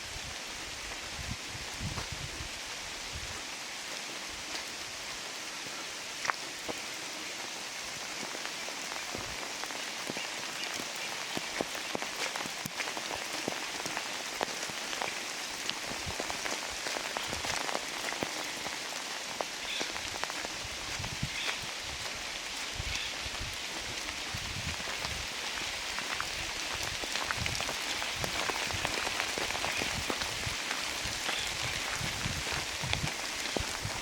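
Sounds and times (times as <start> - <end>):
steady rain hiss: 0.0 - 34.0
raindrops landing close by: 0.7 - 34.0.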